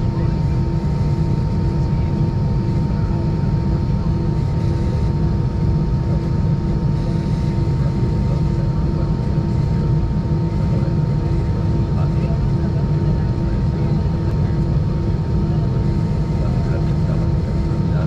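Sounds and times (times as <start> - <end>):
aircraft engines idling rumble: 0.0 - 18.0.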